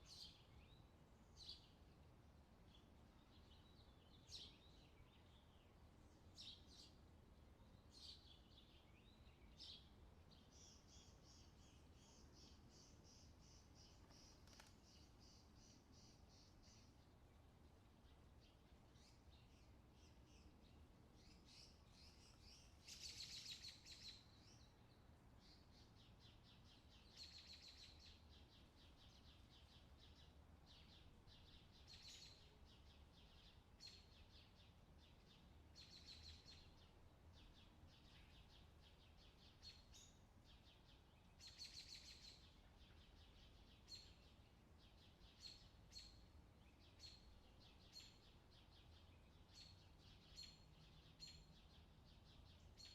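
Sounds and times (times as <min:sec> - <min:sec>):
small birds chirping and trilling: 0:00.0 - 0:52.9.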